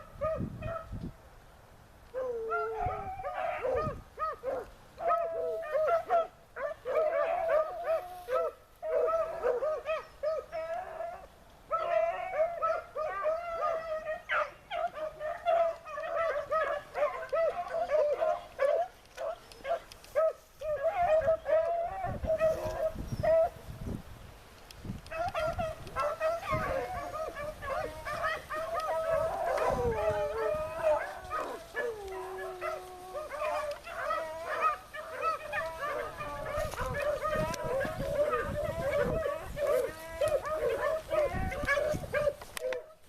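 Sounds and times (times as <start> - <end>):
beagles baying: 2.2 - 23.6, 25.1 - 43.0.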